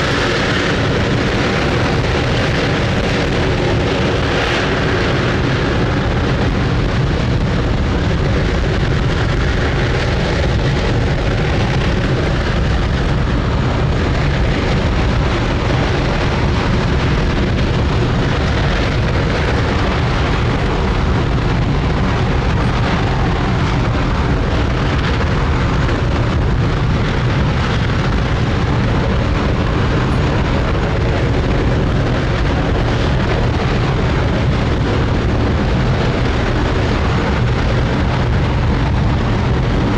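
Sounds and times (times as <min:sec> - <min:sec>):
rocket engine rumble: 0:00.0 - 0:39.9.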